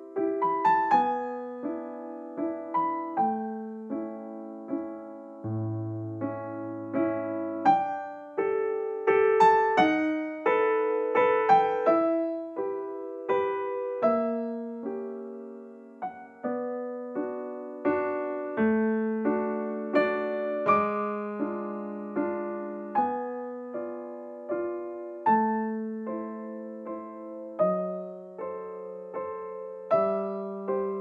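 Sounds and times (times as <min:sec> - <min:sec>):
slow gentle solo piano: 0:00.0 - 0:31.0.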